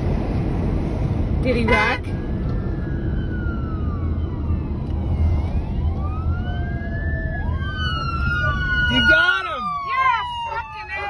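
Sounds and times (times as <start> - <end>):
car rumbling on highway: 0.0 - 11.0
police sirens wailing: 1.5 - 11.0.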